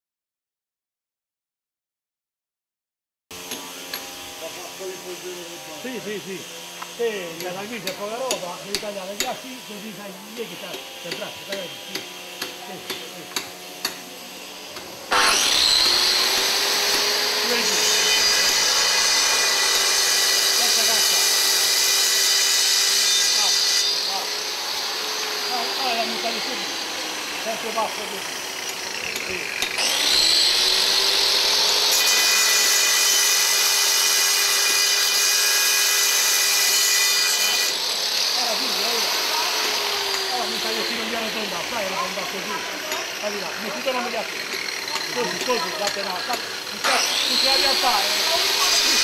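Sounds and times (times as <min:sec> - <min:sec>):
angle grinder cutting stone: 0:03.3 - 0:49.0.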